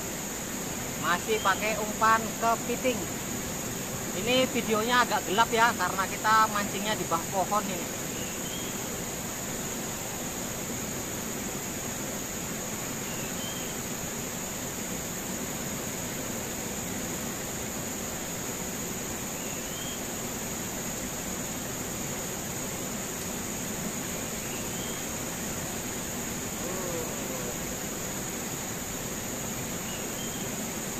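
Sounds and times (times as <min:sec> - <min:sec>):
high-pitched insect drone: 0:00.0 - 0:30.9.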